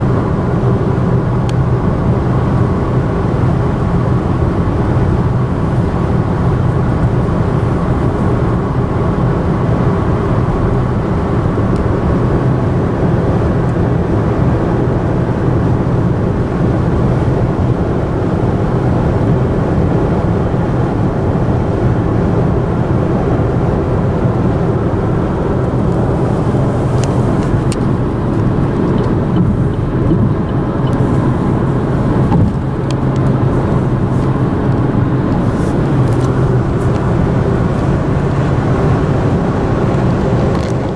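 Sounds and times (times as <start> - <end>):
car driving drone: 0.0 - 40.9.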